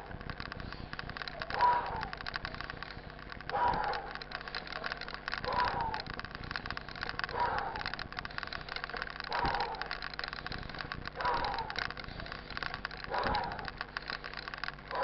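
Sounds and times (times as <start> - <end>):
mountain bike rattling on dirt trail: 0.0 - 15.0.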